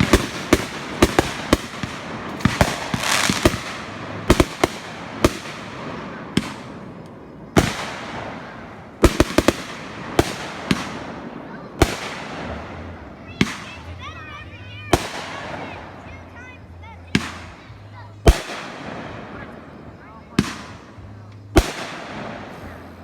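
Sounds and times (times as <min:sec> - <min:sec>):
crackling hiss: 0:00.0 - 0:23.0
fireworks banging: 0:00.0 - 0:23.0.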